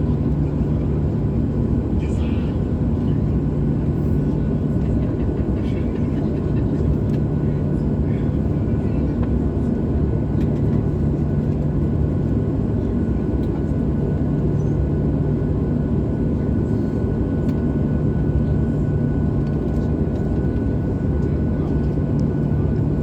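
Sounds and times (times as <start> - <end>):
constant hum: 0.0 - 23.0
jet engines droning: 0.0 - 23.0.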